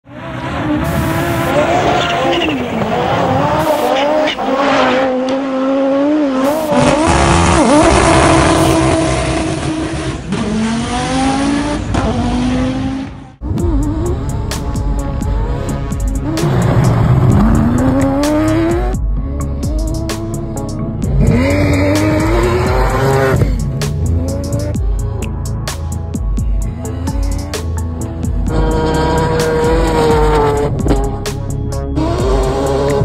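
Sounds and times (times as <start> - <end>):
rally car engines revving: 0.0 - 25.9, 26.7 - 33.0.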